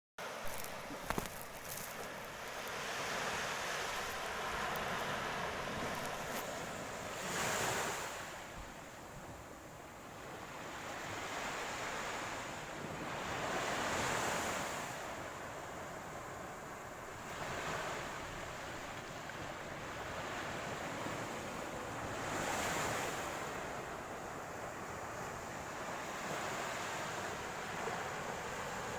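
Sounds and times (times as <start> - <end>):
ocean waves breaking on shore: 0.2 - 28.9
wind on microphone: 0.4 - 28.9.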